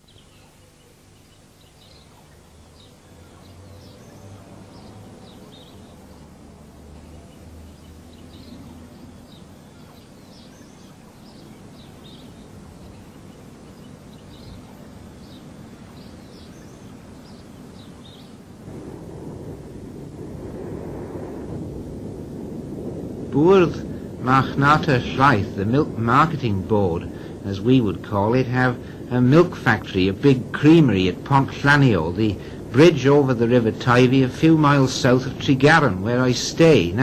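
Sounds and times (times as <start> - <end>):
small birds chirping: 0.0 - 19.8, 23.1 - 37.0
background hiss: 0.0 - 37.0.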